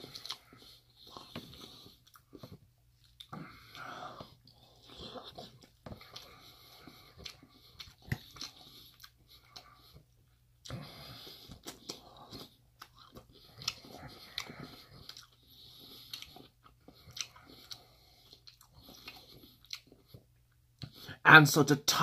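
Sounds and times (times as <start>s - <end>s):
person chewing food: 0.0s - 21.2s.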